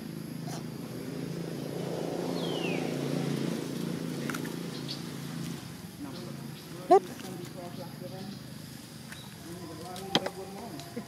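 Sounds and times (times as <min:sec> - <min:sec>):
low motor hum: 0:00.0 - 0:09.4.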